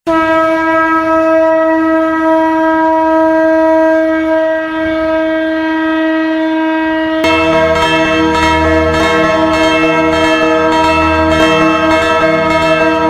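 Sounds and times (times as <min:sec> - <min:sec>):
conch shell blown: 0:00.0 - 0:13.0.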